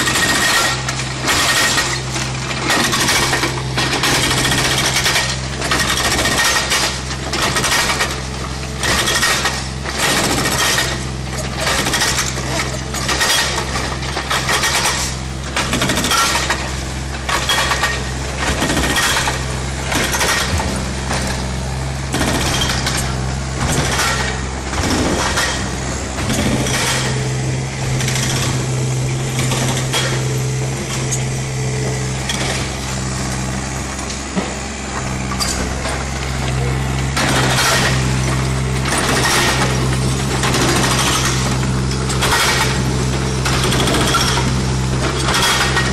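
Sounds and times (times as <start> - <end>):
diesel engine running: 0.0 - 45.9
hydraulic breaker hammering concrete: 0.0 - 45.9.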